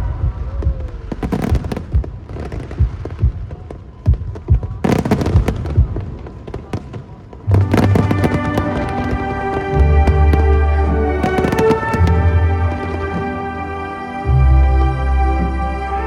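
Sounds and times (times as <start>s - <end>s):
fireworks booming and crackling: 0.0s - 13.7s
fireworks show music: 0.0s - 16.0s.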